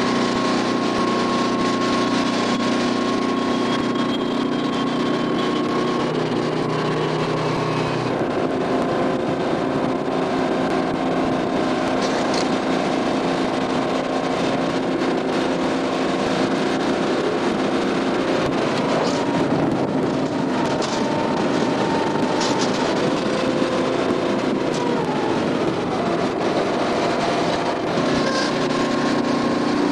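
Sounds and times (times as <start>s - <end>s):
conveyor drive humming: 0.0s - 29.9s.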